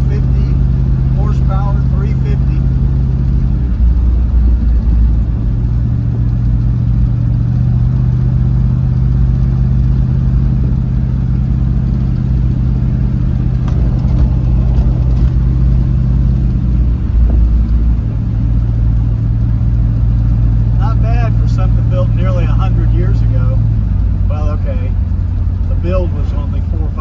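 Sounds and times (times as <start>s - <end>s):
engine running inside cab: 0.0s - 27.0s.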